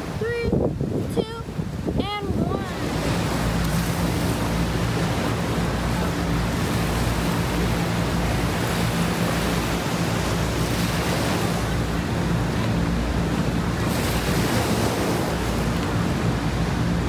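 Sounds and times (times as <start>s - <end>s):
small waves breaking on sand: 0.0s - 17.0s
wind on microphone: 0.0s - 17.0s.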